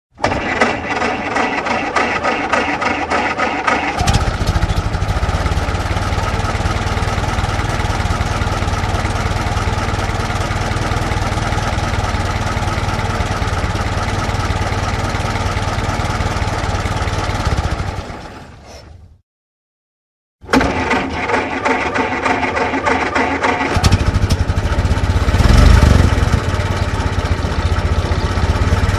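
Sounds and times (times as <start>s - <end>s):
car engine cranking and running: 0.1s - 18.4s, 20.4s - 28.9s.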